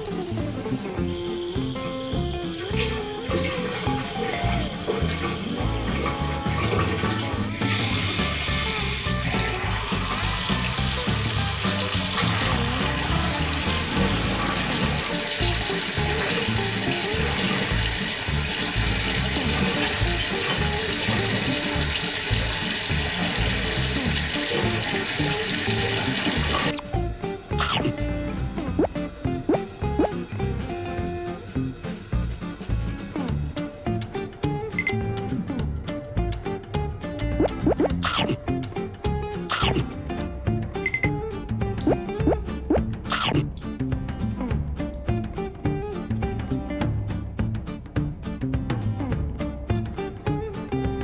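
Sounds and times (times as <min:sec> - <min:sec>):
tap water running into sink: 0:00.0 - 0:26.9, 0:27.5 - 0:43.6
background music: 0:00.0 - 0:51.0.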